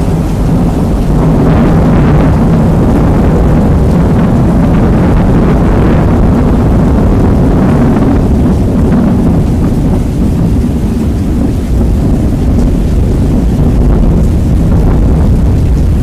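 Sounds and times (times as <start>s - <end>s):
deep rumble: 0.0s - 16.0s
rain hiss: 0.0s - 16.0s.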